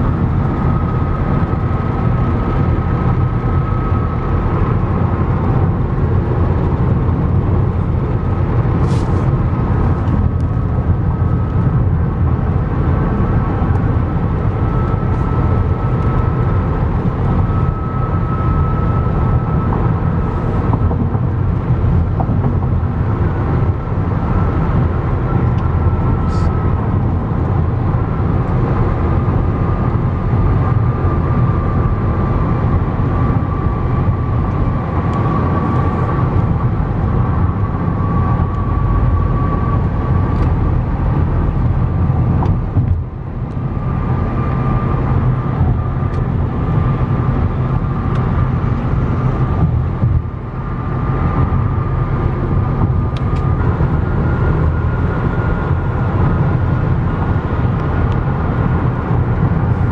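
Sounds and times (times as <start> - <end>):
faint steady whine: 0.0 - 59.9
road and engine rumble: 0.0 - 59.9.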